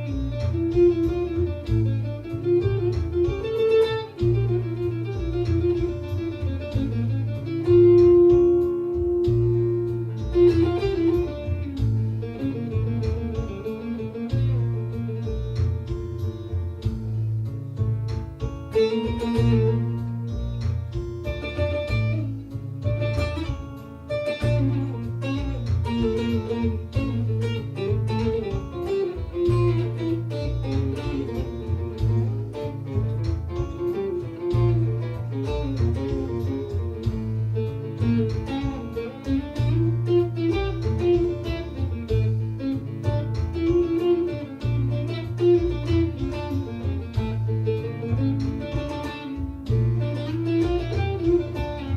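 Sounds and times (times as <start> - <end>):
held low bass notes: 0.0 - 51.9
plucked lute improvisation: 0.0 - 51.9.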